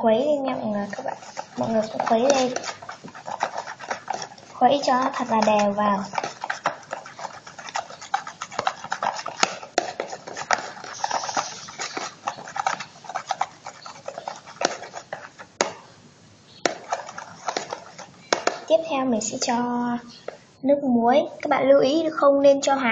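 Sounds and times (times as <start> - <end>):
utensil stirring slime in bowl: 0.0 - 20.4.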